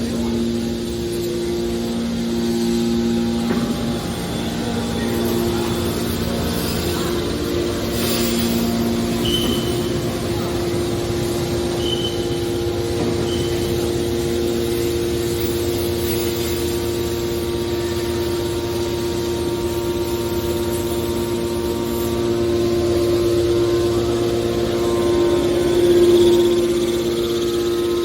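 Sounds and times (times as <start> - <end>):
hydraulic baler humming: 0.0 - 28.0.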